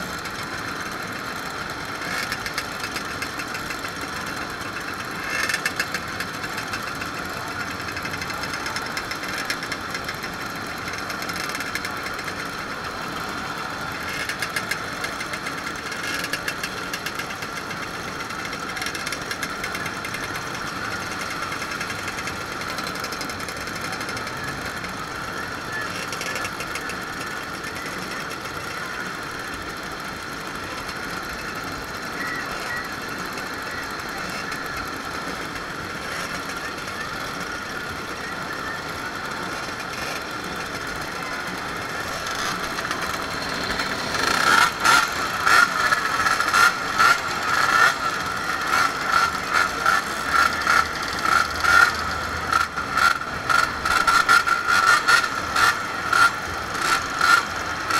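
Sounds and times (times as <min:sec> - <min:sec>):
two-stroke moped engines running: 0:00.0 - 0:57.9.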